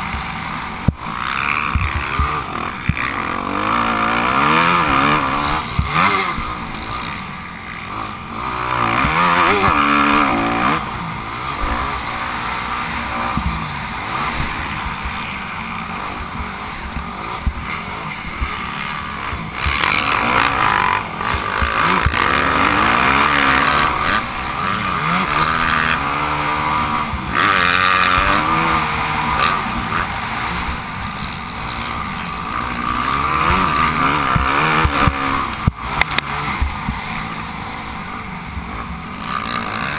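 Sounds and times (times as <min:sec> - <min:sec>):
motocross bike engine revving: 0:00.0 - 0:39.9
steady rushing noise: 0:00.0 - 0:39.9.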